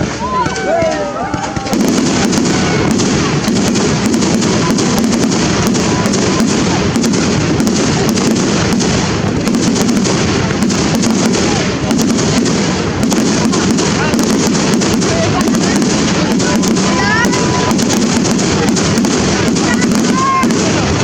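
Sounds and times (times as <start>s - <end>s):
fireworks bangs and crackles: 0.0s - 21.0s
steady rumble of fireworks: 0.0s - 21.0s.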